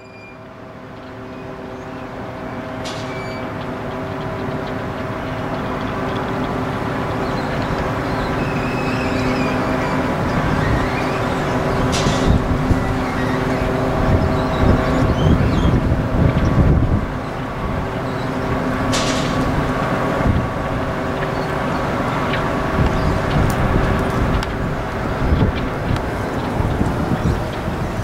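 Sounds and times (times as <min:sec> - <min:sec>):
ship engines droning: 0:00.0 - 0:28.0.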